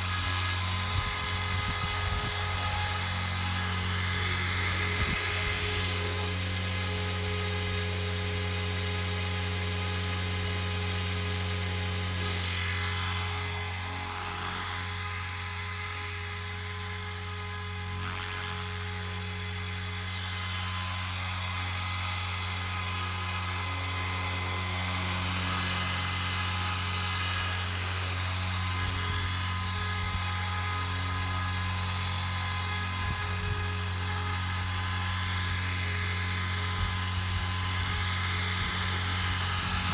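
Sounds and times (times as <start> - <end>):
model helicopter whine: 0.0 - 39.9
rotor hum: 0.0 - 39.9.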